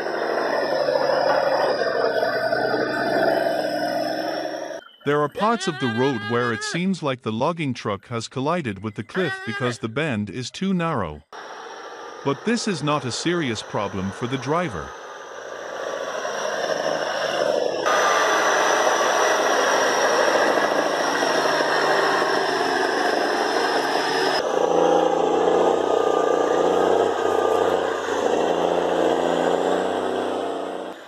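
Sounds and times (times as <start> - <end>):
diesel truck engine running: 0.0 - 6.6, 11.2 - 31.0
thin high whine: 0.0 - 31.0.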